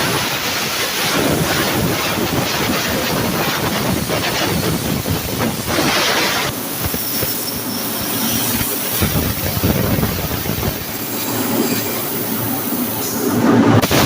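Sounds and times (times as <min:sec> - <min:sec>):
plasma torch cutting metal: 0:00.0 - 0:14.0.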